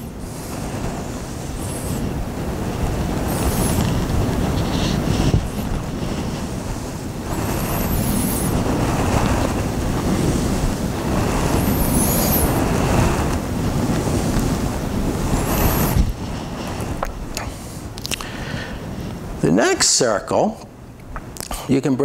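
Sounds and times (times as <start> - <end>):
rushing surf-like noise: 0.0 - 20.2.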